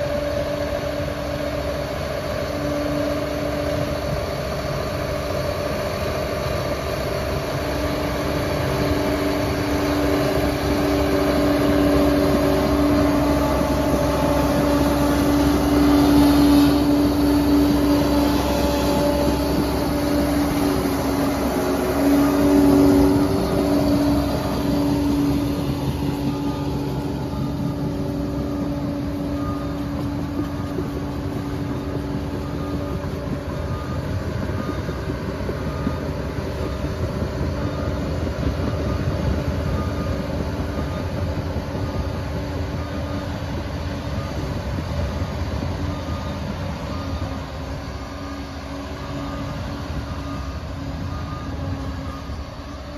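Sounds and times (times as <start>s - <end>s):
dozer diesel engine running: 0.0s - 52.9s
low rumble of tracks: 0.0s - 52.9s.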